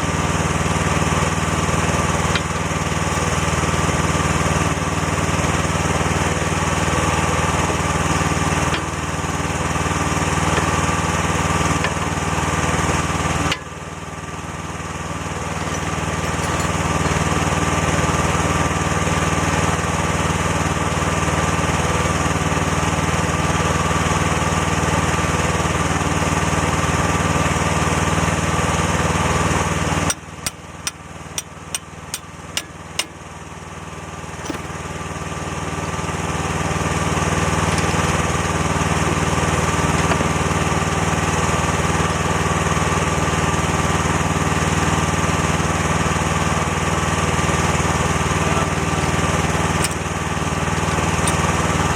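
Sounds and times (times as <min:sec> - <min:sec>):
small excavator engine running: 0:00.0 - 0:51.9.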